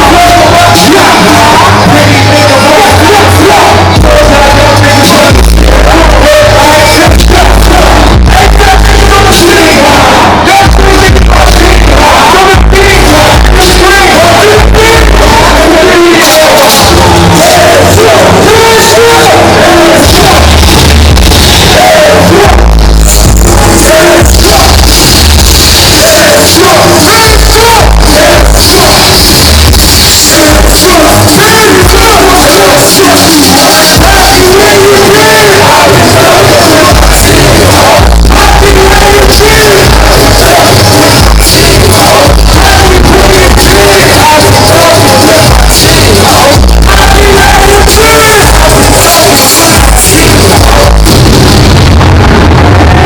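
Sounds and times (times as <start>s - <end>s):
bass-heavy hip-hop beat: 0.0s - 53.0s
people rapping: 0.0s - 53.0s.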